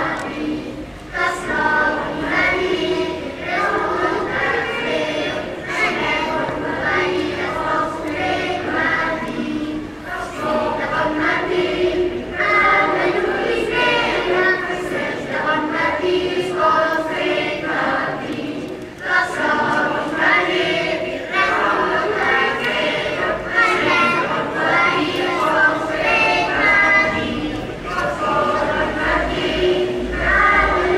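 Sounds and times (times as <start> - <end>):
mixed choir singing: 0.0 - 30.9.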